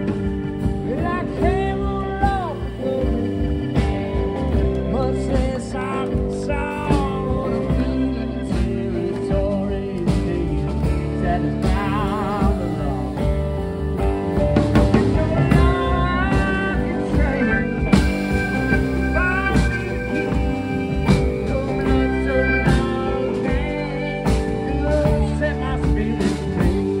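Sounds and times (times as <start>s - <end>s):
drum kit with cymbal hits: 0.0s - 27.0s
electric guitar: 0.0s - 27.0s
keyboard: 0.0s - 27.0s.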